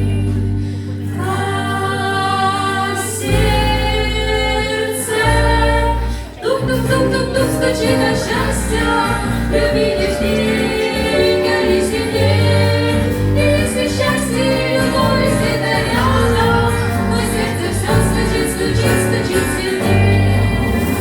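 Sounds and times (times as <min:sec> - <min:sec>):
instrumental backing with bass line: 0:00.0 - 0:21.0
voices singing together: 0:00.0 - 0:21.0.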